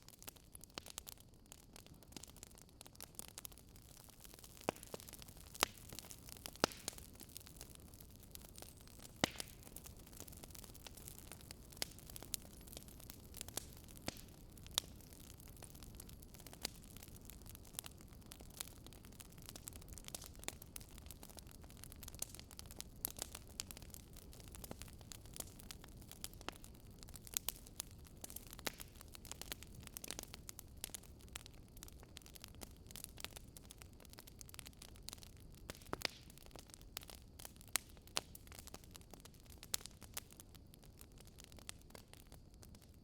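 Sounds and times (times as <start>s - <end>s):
faint low hiss: 0.0s - 43.0s
wood fire crackling: 0.0s - 43.0s.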